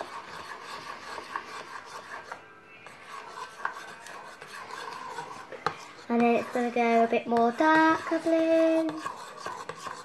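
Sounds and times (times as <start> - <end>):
spoon stirring sticky slime: 0.0 - 10.0.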